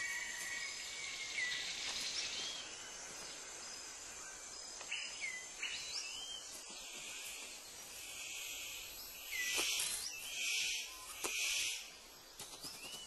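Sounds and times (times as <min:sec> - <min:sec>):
insects hissing: 0:00.0 - 0:12.7.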